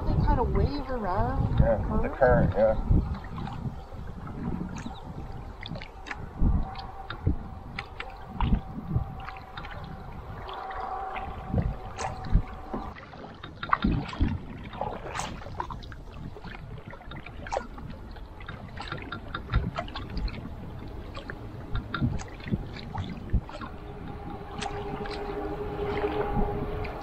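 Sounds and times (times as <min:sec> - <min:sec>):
water washing: 0:00.0 - 0:27.0
paddle splashing in water: 0:03.0 - 0:27.0.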